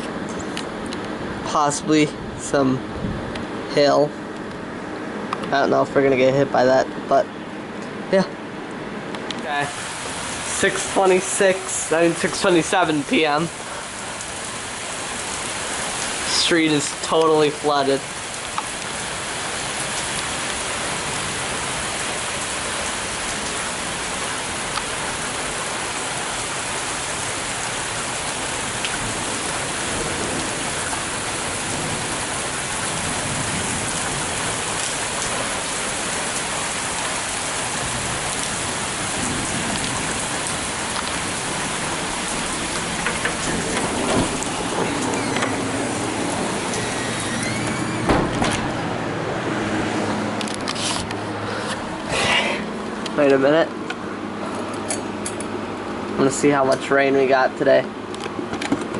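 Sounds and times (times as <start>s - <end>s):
heavy rain falling: 8.1s - 58.6s.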